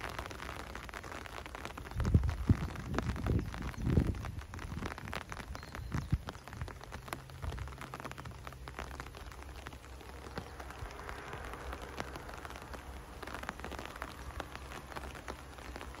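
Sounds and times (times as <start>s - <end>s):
rain drops tapping: 0.0s - 16.0s.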